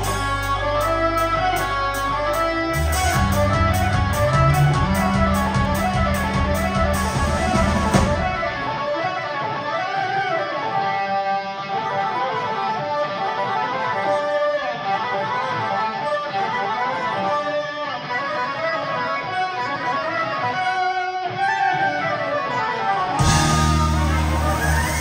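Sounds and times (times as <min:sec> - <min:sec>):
electric guitar melody: 0:00.0 - 0:25.0
rock band playing: 0:00.0 - 0:25.0.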